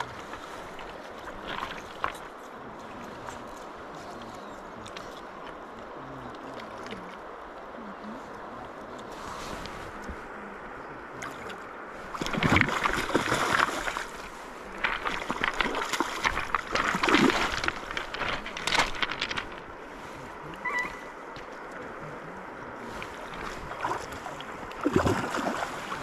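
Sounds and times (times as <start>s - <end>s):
water splashing in river: 0.0s - 26.0s.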